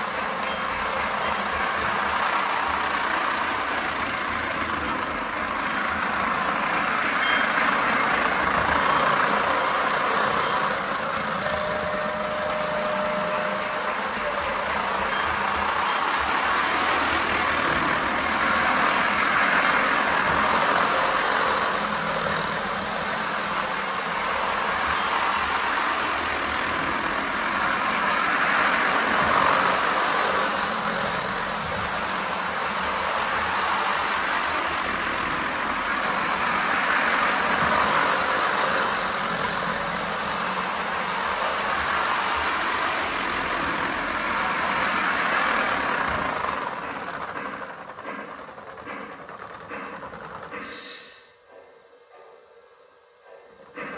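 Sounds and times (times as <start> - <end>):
toy train whirring on track: 0.0 - 51.3.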